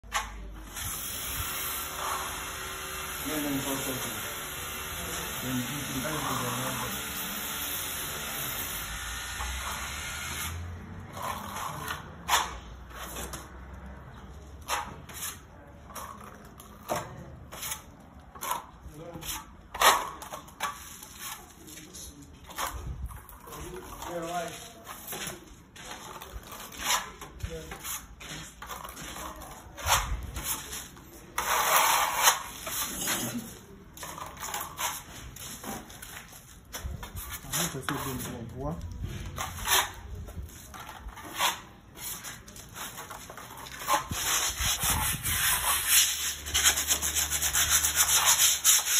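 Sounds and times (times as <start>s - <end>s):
trowel scraping compound on wall: 0.0s - 48.9s.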